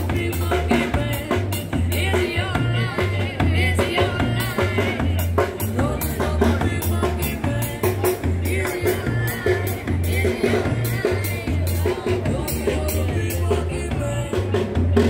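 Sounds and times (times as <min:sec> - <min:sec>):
upbeat song with singing: 0:00.0 - 0:15.0.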